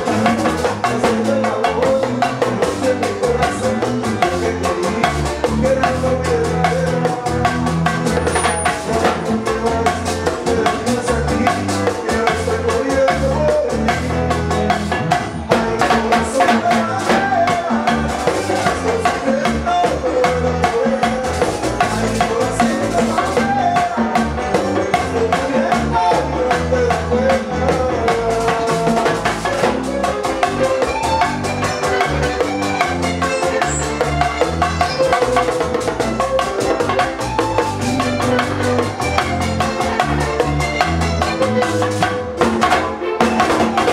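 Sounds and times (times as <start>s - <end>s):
man singing lead vocal: 0.0s - 41.8s
acoustic-electric guitar: 0.0s - 43.9s
congas: 0.0s - 43.9s
keyboard: 0.0s - 43.9s
latin band playing: 0.0s - 43.9s.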